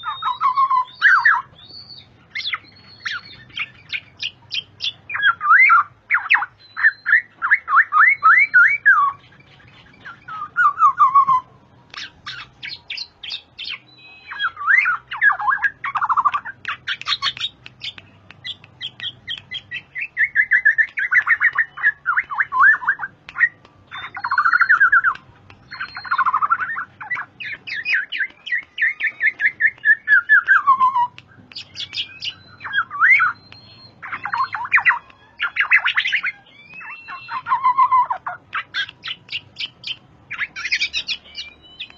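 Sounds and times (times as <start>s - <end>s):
bird harsh chattering calls: 0.0s - 41.9s.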